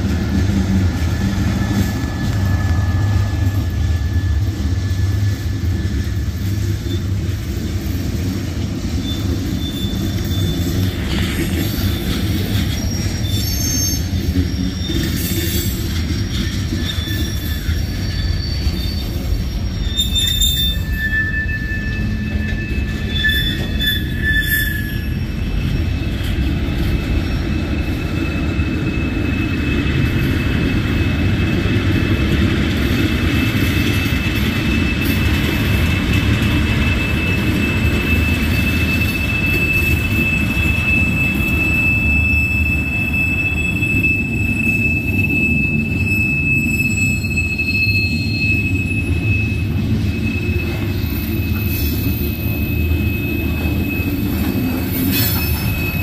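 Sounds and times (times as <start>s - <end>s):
train wheels rumbling on rail: 0.0s - 56.0s
high-pitched wheel squeal: 1.0s - 7.1s, 9.0s - 26.2s, 33.6s - 56.0s.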